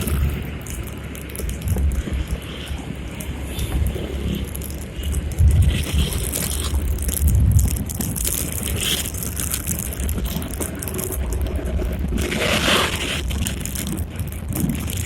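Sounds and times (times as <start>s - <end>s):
gusty wind on microphone: 0.0s - 15.0s
street noise: 0.0s - 15.0s.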